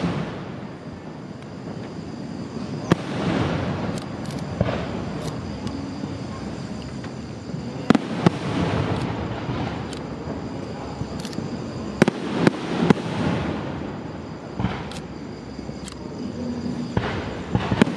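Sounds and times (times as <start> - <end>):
continuous rumble: 0.0 - 17.9.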